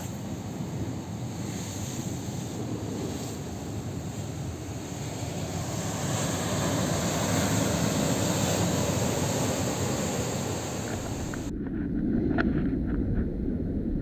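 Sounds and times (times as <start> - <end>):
sea surf breaking on rocks: 0.0 - 11.5
wind rumbling on microphone: 0.0 - 14.0.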